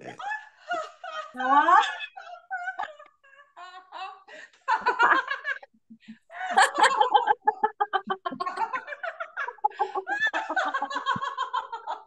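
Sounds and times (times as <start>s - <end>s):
people laughing loudly: 0.1s - 5.6s, 6.4s - 12.0s.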